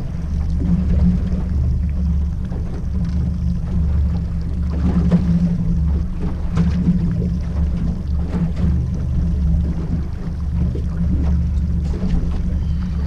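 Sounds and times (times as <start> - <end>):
outboard motor running: 0.0 - 13.0
water splashing against hull: 0.0 - 13.0.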